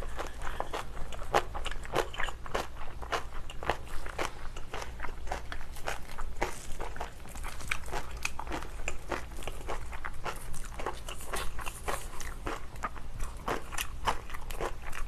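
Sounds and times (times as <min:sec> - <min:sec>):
wet crunchy chewing: 0:00.0 - 0:15.0.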